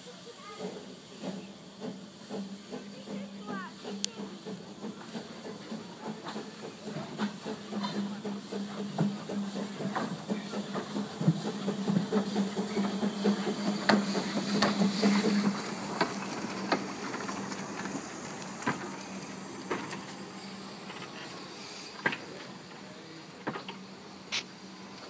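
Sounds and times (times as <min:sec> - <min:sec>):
steam hissing: 0:00.0 - 0:25.0
locomotive clanks and knocks: 0:00.6 - 0:23.9.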